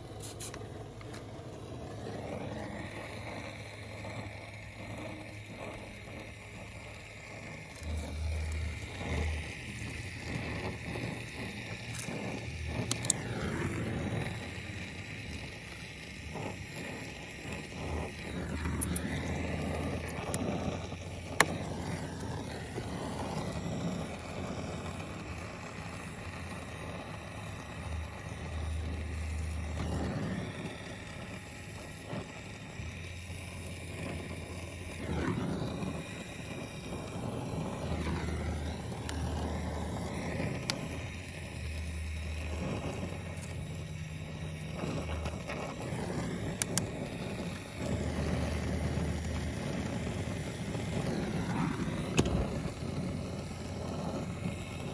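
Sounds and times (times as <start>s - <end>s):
torch flame hissing: 0.0s - 54.9s
low rumble: 7.4s - 14.9s, 17.9s - 54.4s.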